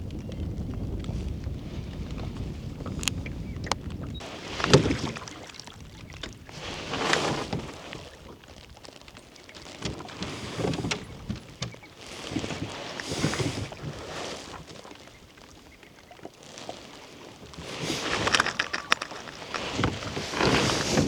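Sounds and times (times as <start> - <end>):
oars splashing in water: 1.5 - 21.0.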